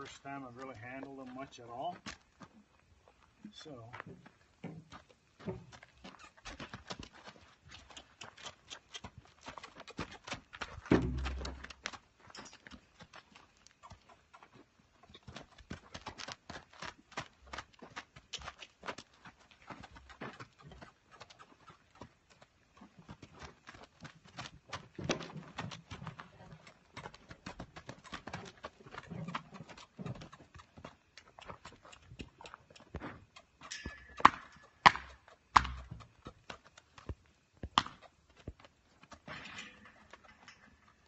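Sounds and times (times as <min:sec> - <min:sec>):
horse hoofbeats on dirt: 0:00.0 - 0:41.0.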